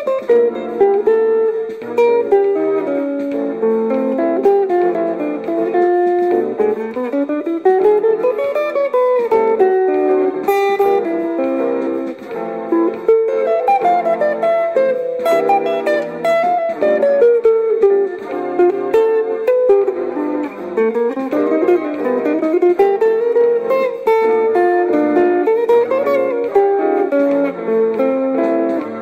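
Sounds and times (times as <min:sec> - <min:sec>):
electric guitar jazz solo: 0:00.0 - 0:29.0
guitar chords: 0:00.0 - 0:29.0.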